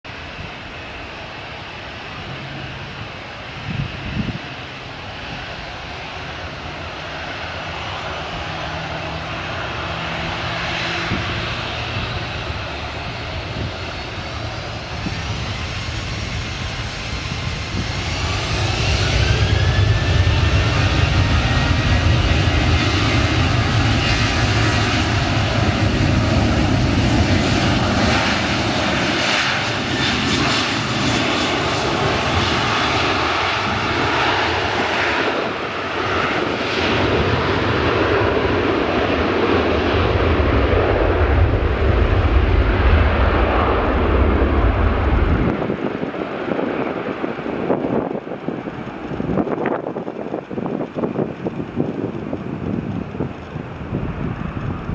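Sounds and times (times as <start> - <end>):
jet engines spooling up: 0.2 - 54.9.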